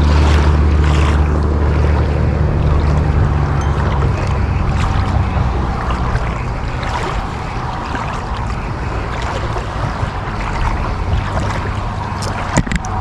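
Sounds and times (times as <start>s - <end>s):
low rumble: 0.0s - 13.0s
small waves lapping: 0.0s - 13.0s
wind buffeting microphone: 0.0s - 13.0s.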